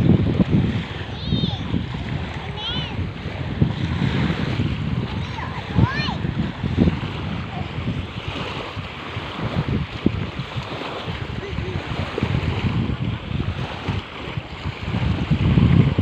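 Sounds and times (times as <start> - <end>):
sea surf washing in: 0.0 - 16.0
wind buffeting microphone: 0.0 - 16.0.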